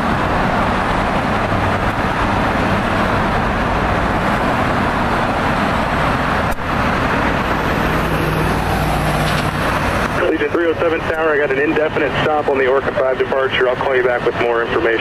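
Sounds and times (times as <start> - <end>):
loud engine roar: 0.0 - 15.0.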